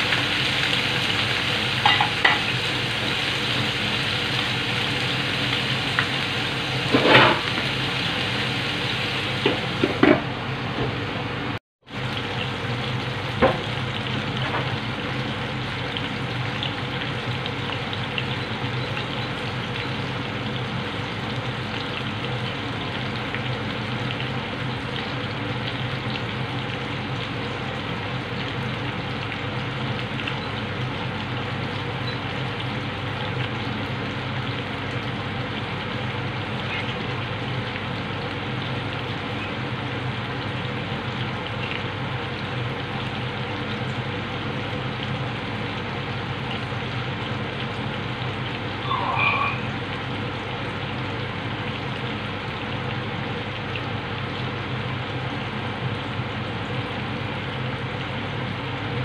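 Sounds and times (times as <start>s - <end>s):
chicken sizzling in hot oil: 0.0s - 59.0s.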